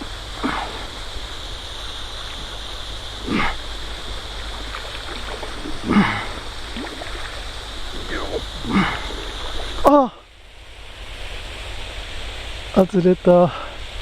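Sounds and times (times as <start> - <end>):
river water rushing: 0.0 - 12.8.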